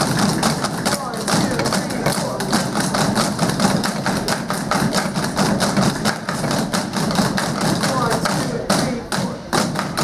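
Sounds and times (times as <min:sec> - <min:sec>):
drumsticks tapping practice pads: 0:00.1 - 0:10.0.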